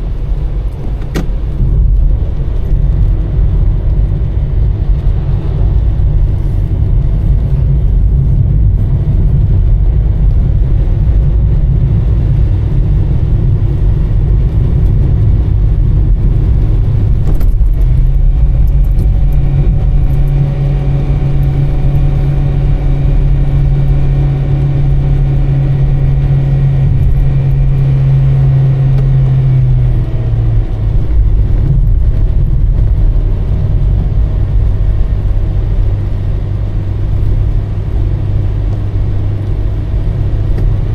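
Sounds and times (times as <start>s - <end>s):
car engine: 0.0s - 40.9s
road rumble: 0.0s - 40.9s.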